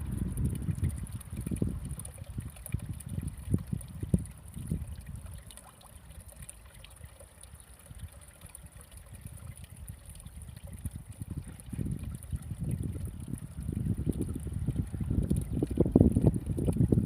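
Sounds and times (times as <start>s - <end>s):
water sloshing and lapping: 0.1s - 17.0s.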